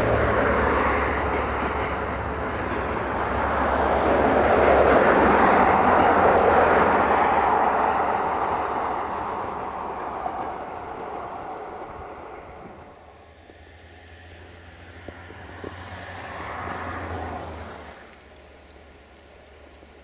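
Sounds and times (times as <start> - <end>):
passenger train rumbling on track: 0.0 - 20.0.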